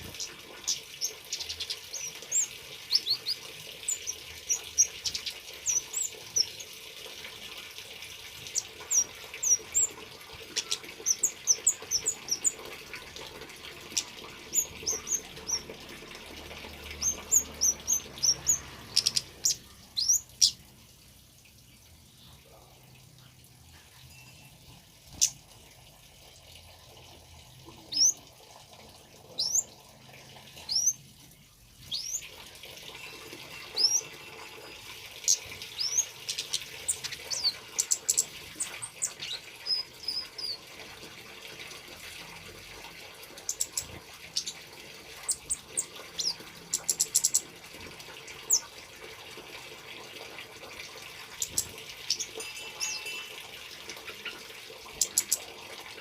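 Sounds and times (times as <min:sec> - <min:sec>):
trickling water: 0:00.0 - 0:56.0.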